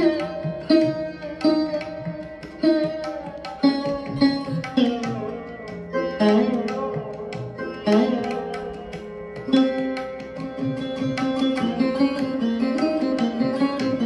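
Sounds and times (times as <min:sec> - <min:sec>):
plucked string notes: 0:00.0 - 0:14.0.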